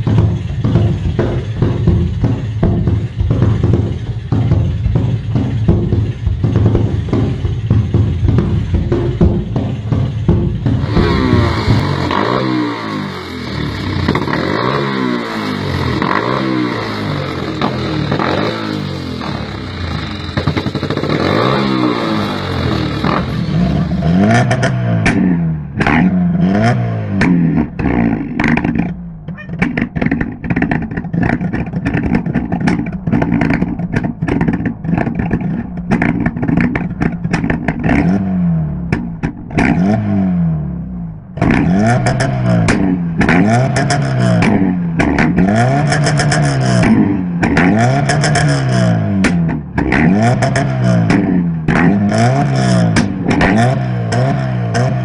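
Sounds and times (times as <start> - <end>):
exhaust pops and bangs: 0.0 - 55.0
petrol engine revving: 0.0 - 55.0.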